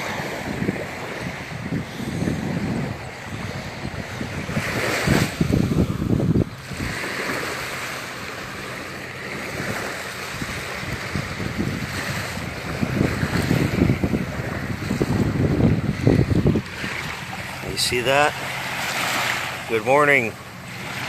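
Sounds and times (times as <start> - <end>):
surf washing on a beach: 0.0 - 21.0
wind buffeting microphone: 0.0 - 21.0.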